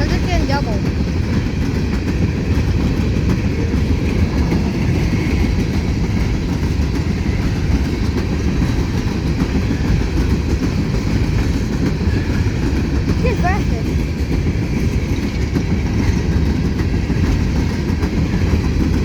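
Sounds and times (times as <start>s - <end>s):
freight train cars rolling past: 0.0s - 19.0s.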